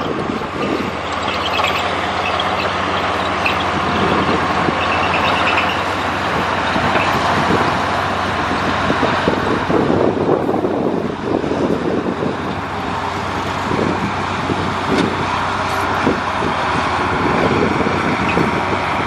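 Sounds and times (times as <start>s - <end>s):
clatter of tracks and soil: 0.0s - 19.0s
heavy diesel machinery engine: 0.0s - 19.0s.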